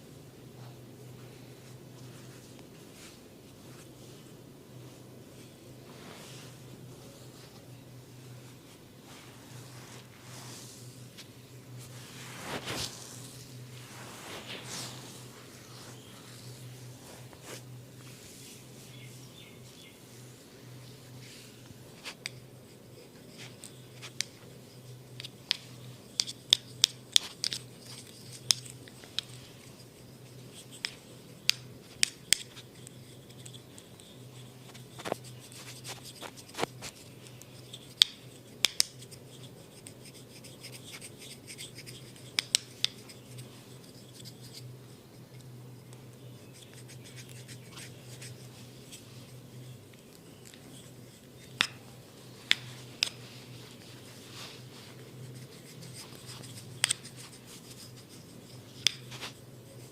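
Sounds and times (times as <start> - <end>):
steady low hum: 0.0 - 59.9
hands rubbing skin and hair: 1.6 - 24.4, 25.1 - 59.9.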